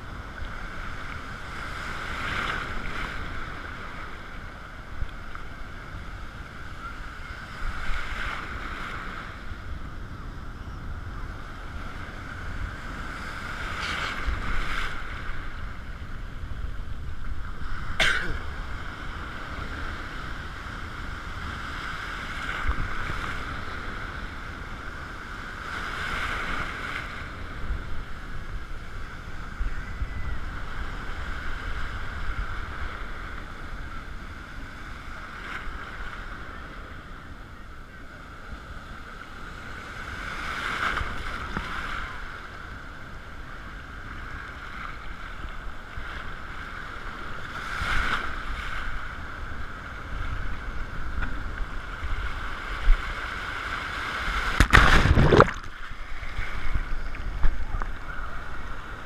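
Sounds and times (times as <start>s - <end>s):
waves breaking: 0.0s - 59.0s.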